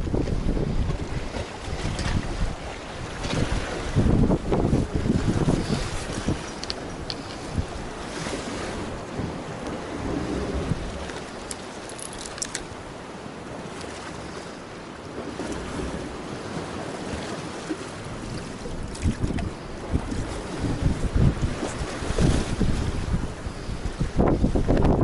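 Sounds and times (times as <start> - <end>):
sea waves: 0.0 - 25.0
wind buffeting microphone: 0.0 - 25.0.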